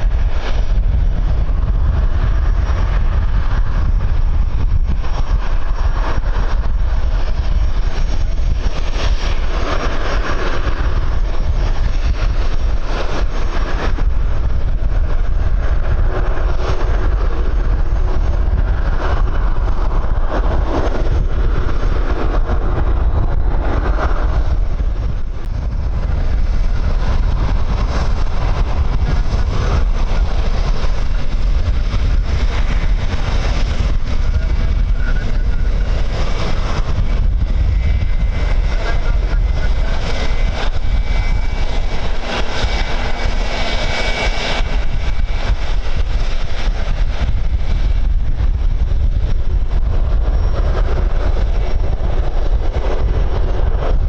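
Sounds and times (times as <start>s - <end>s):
jet engine rumble: 0.0s - 54.0s
wind buffeting microphone: 0.0s - 54.0s.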